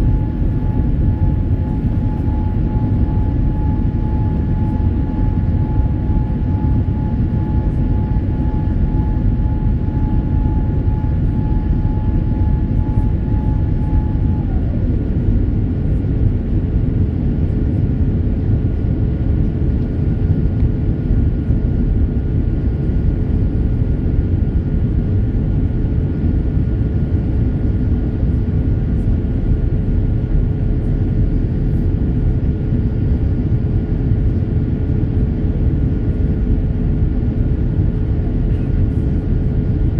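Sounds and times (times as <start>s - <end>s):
jet engines rumbling with whine: 0.0s - 39.9s.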